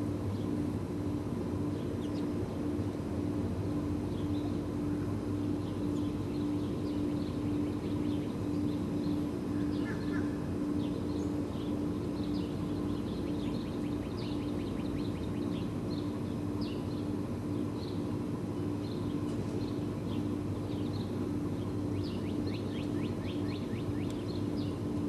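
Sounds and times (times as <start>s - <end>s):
steady low hum: 0.0s - 25.0s
songbirds chirping: 0.2s - 25.0s.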